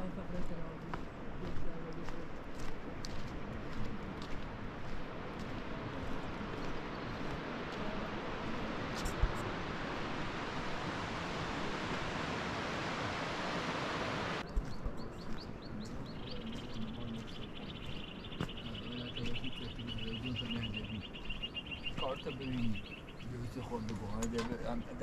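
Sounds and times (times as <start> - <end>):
small birds twittering: 2.0 - 25.0
steady rushing noise: 2.3 - 22.8.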